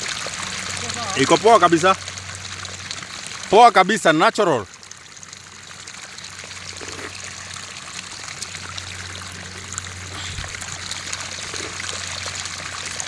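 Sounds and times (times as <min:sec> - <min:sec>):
stream trickling over rocks: 0:00.0 - 0:13.0.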